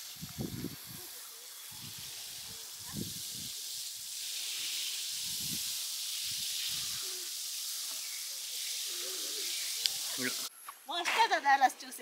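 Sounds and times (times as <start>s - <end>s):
outdoor shower spraying water: 0.0s - 10.5s.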